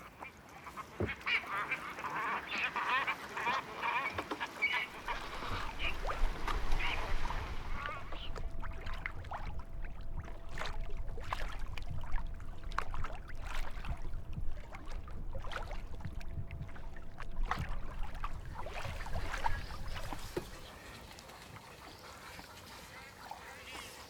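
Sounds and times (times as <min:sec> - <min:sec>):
water lapping at hull: 0:00.0 - 0:24.0
kayak paddle splashing: 0:00.8 - 0:24.0.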